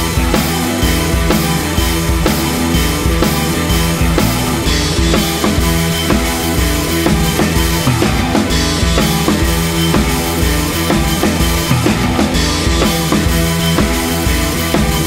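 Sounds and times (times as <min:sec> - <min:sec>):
drum kit beat: 0:00.0 - 0:15.0.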